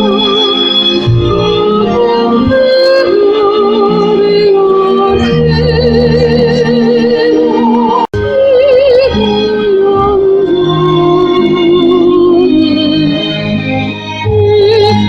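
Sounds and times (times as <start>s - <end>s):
instrumental accompaniment chords: 0.0s - 15.0s
soprano singing opera: 0.0s - 15.0s.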